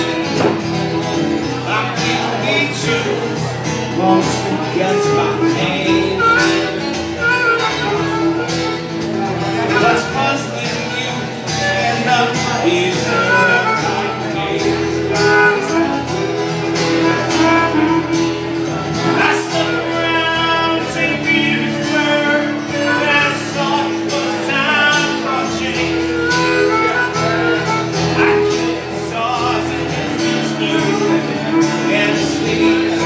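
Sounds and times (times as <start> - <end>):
harmonica long notes: 0.0 - 33.0
man singing: 0.0 - 33.0
strummed acoustic guitar: 0.0 - 33.0.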